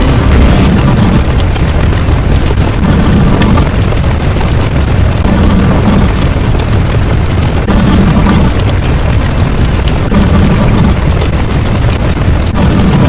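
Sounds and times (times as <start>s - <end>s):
explosion-like rumble: 0.0s - 13.0s.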